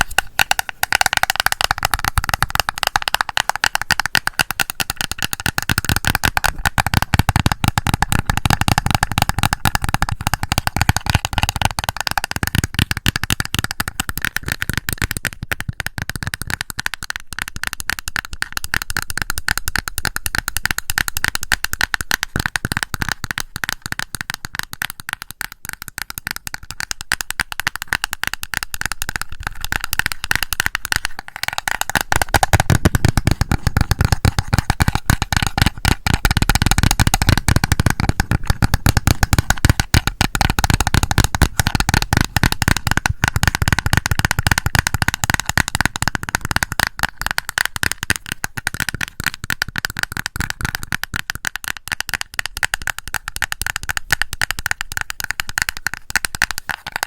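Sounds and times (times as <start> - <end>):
tapping on a compact: 0.0 - 57.0.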